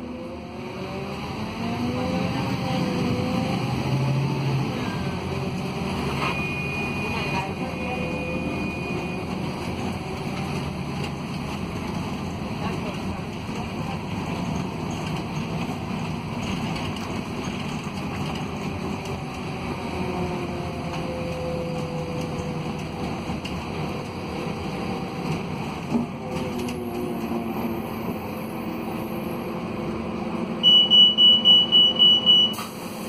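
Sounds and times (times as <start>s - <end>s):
bus diesel engine pulling: 0.0s - 33.0s
road noise: 0.0s - 33.0s.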